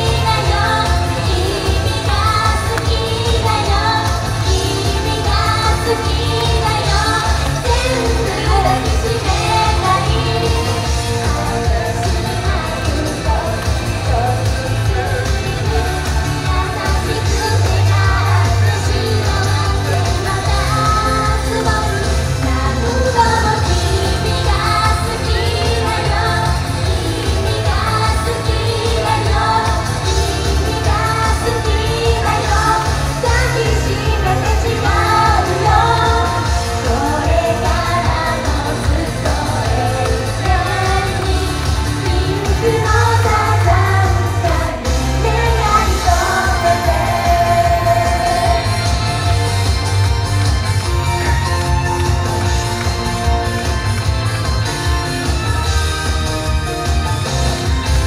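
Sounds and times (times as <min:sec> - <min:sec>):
women singing into microphones: 0:00.0 - 0:49.9
pop backing music with bass: 0:00.0 - 0:58.0.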